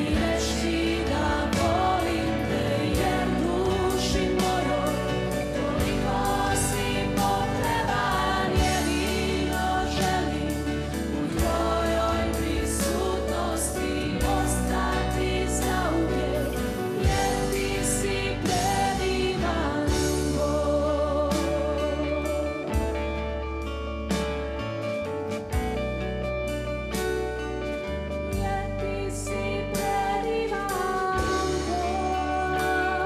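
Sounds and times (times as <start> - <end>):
woman singing into microphone: 0.0 - 22.7, 28.4 - 33.0
group singing worship song: 0.0 - 22.8, 28.3 - 33.0.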